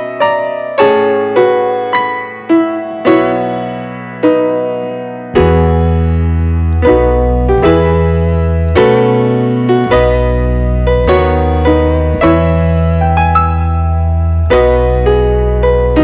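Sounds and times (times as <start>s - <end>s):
calm solo piano: 0.0s - 16.0s.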